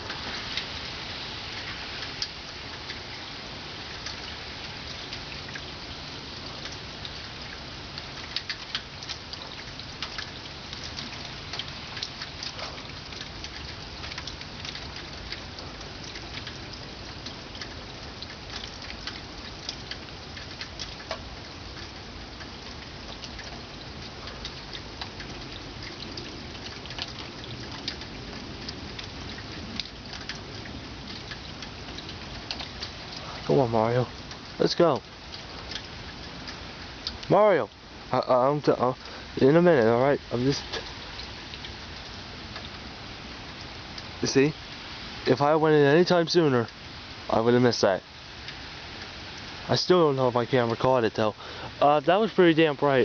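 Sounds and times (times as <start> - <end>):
raindrops tapping close by: 0.0 - 53.0
steady rain falling: 0.0 - 53.0.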